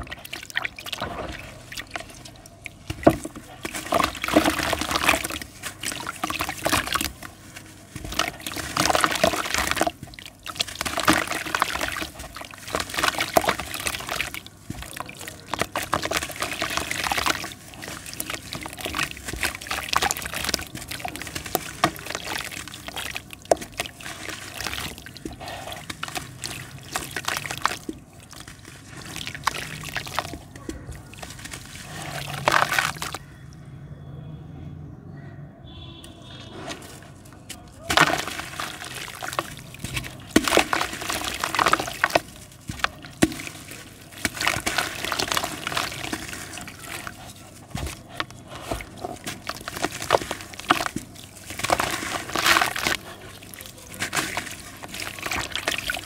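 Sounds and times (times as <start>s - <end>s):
water sloshing and dripping: 0.0s - 33.4s, 36.2s - 56.0s.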